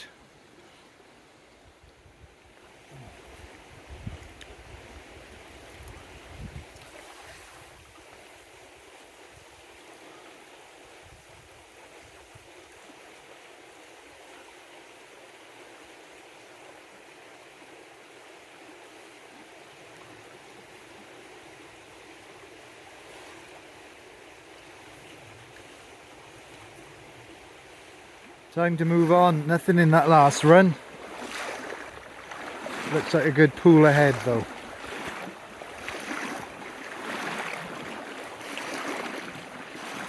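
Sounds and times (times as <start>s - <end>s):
stream running over stones: 2.4s - 40.0s.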